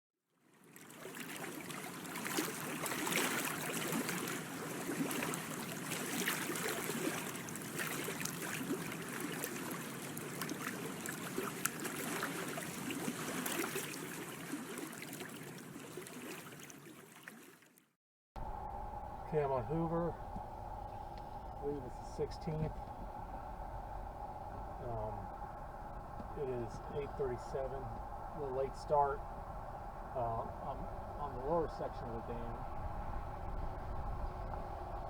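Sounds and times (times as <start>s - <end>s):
water lapping and splashing: 0.4s - 17.9s, 19.2s - 33.6s.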